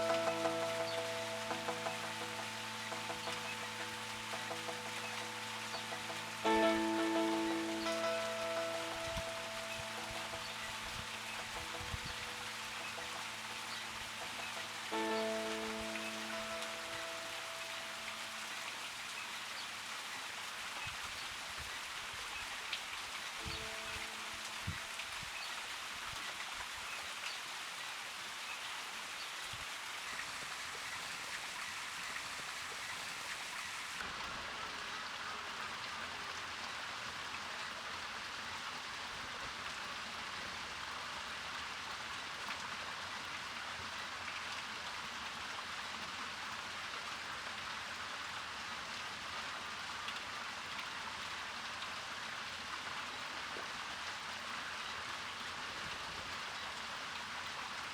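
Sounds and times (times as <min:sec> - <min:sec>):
fountain water splashing and trickling: 0:00.0 - 0:57.9.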